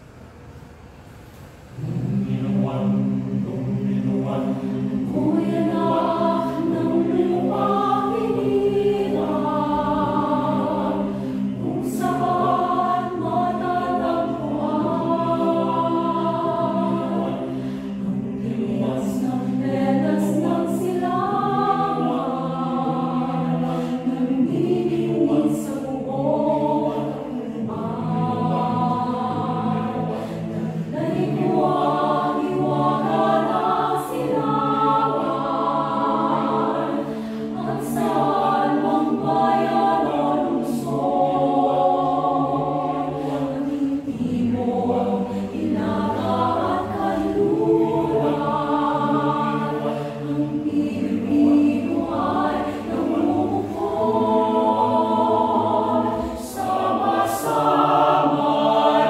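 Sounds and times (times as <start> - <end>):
mixed choir singing unaccompanied: 1.7 - 59.0.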